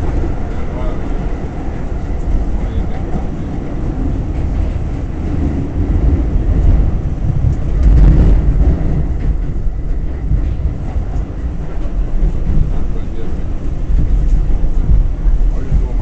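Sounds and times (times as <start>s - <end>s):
rail clicks: 0.0s - 16.0s
subway wheels rumbling on rail: 0.0s - 16.0s.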